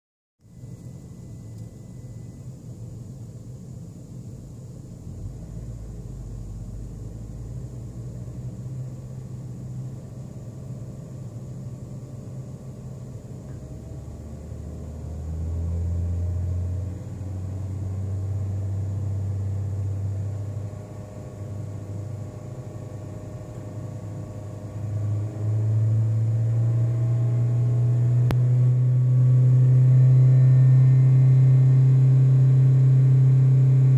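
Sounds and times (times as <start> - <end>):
car engine drone: 0.4 - 33.9.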